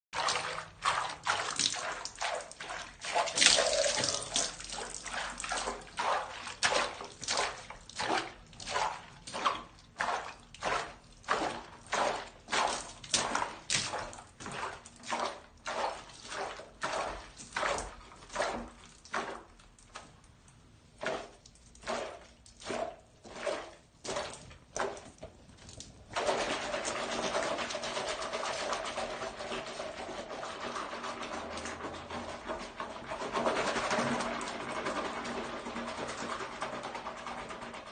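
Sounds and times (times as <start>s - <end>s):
water splashing in a bathtub: 0.1s - 37.9s.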